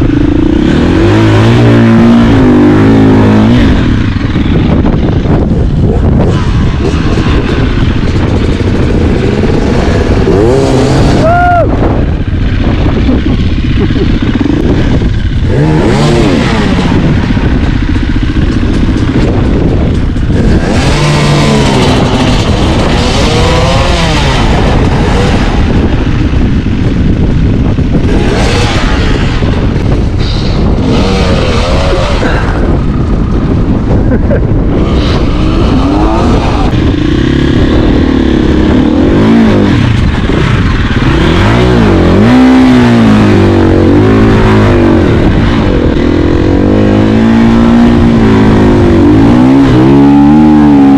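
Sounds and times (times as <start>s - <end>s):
dirt bike engine revving: 0.0s - 50.9s
low rumble: 0.0s - 50.9s.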